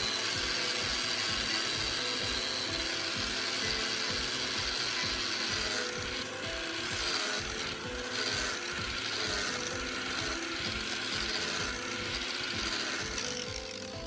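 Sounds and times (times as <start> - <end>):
angle grinder sanding wood: 0.0 - 14.0
background music with beat: 0.0 - 14.0.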